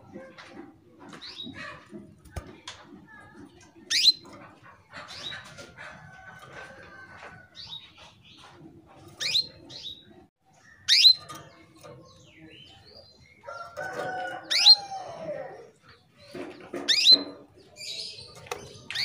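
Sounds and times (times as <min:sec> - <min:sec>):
canary chirping: 0:01.1 - 0:02.4, 0:03.2 - 0:19.0.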